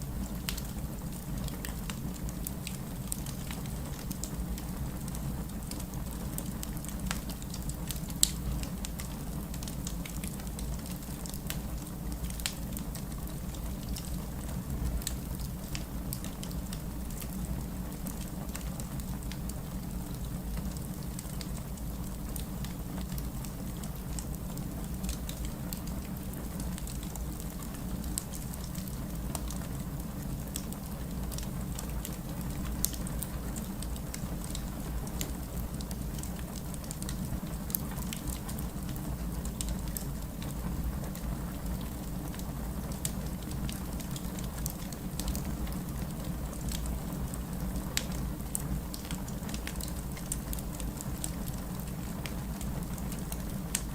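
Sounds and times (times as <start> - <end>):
campfire crackling and popping: 0.1 - 53.9.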